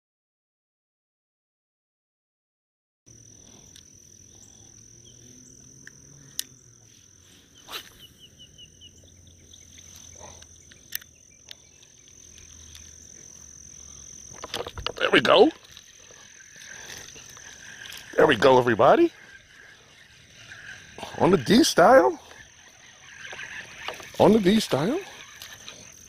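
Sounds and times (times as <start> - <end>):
high-pitched insect drone: 3.1 - 26.0
rapid trill of calls: 3.2 - 26.0.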